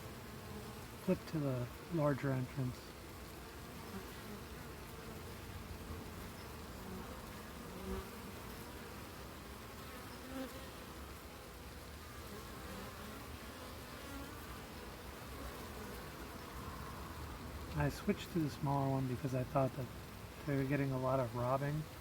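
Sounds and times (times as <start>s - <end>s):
bee flying close past: 0.0s - 18.5s
bees buzzing at hive: 0.0s - 22.0s.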